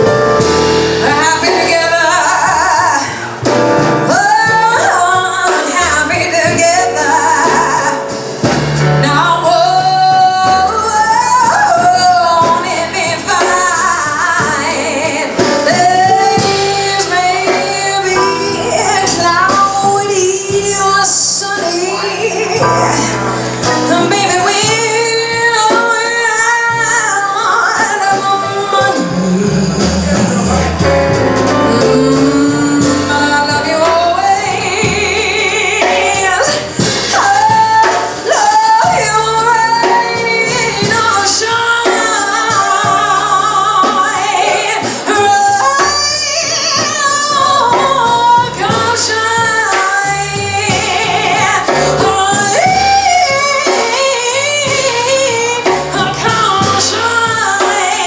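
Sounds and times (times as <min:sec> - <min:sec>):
bass: 0:00.0 - 0:58.0
drums and cymbals: 0:00.0 - 0:58.0
woman singing jazz: 0:00.0 - 0:58.0.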